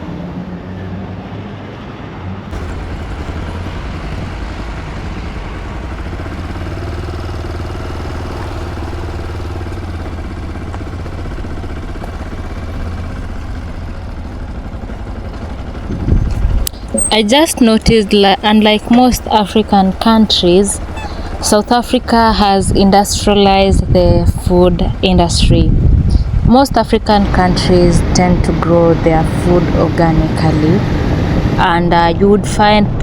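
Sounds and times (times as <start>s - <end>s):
wind and road noise: 0.0s - 33.0s
motorcycle engine running: 2.5s - 32.1s.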